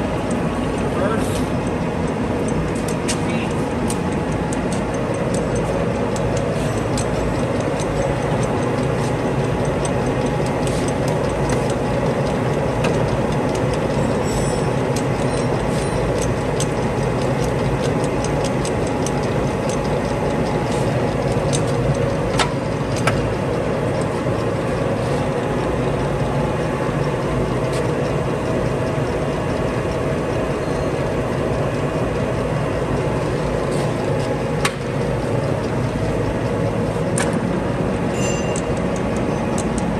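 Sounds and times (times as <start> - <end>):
lathe gear-drive hum: 0.0 - 39.9.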